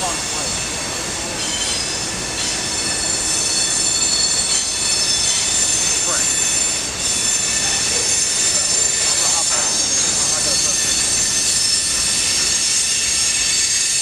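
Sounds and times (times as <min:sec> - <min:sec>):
train wheels rumbling on rail: 0:00.0 - 0:14.0
high-pitched wheel squeal: 0:00.3 - 0:14.0.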